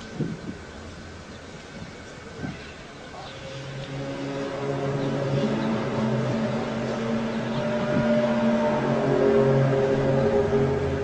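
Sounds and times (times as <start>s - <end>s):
low pitched drone: 0.0s - 11.0s.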